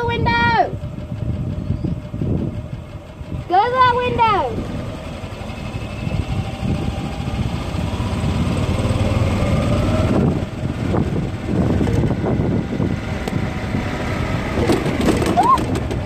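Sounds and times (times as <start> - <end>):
cart rolling rumble: 0.0 - 16.0
golf cart motor whine: 0.1 - 16.0.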